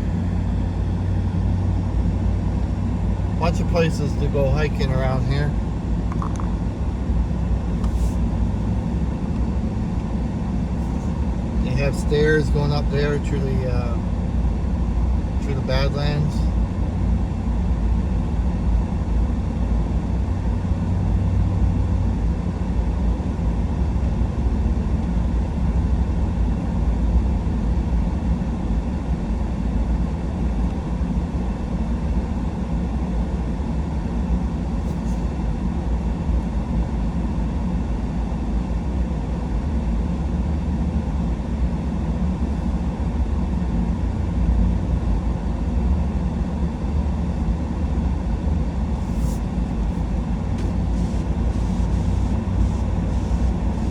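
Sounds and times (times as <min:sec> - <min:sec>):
engine and tyre road rumble: 0:00.0 - 0:53.9.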